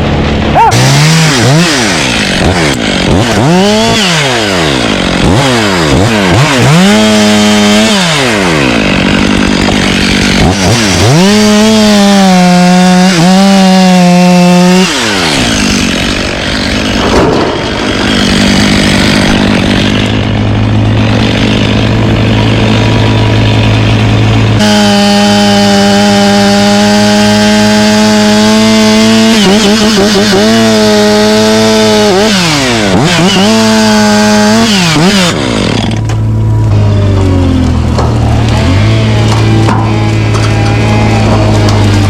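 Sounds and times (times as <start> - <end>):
chainsaw revving and idling: 0.0 - 42.0.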